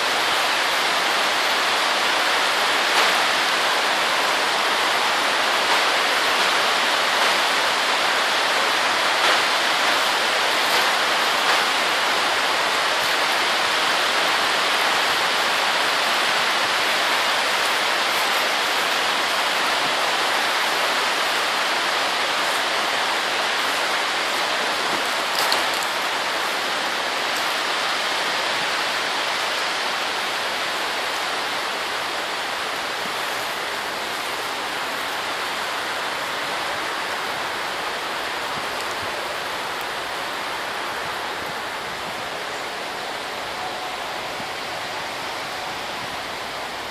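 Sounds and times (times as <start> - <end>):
rain on plastic sheeting: 0.0 - 46.9.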